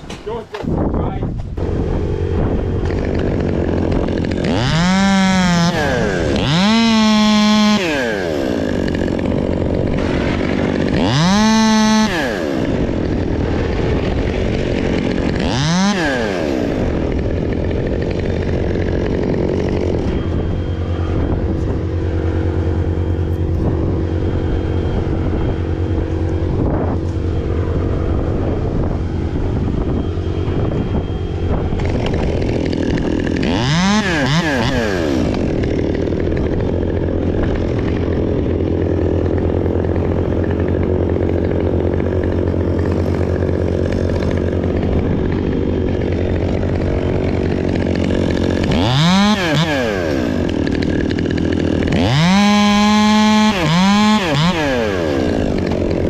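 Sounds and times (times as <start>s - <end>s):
chainsaw idling and revving: 1.6s - 56.0s.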